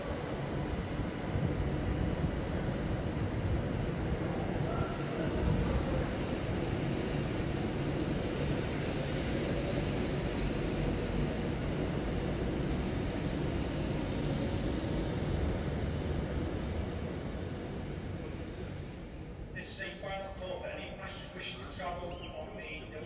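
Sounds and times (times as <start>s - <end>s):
train rumbling with faint whine: 0.0s - 23.0s.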